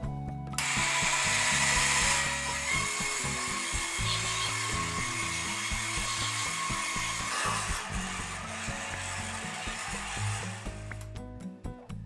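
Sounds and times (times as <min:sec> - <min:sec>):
electric hand mixer whipping: 0:00.6 - 0:11.1.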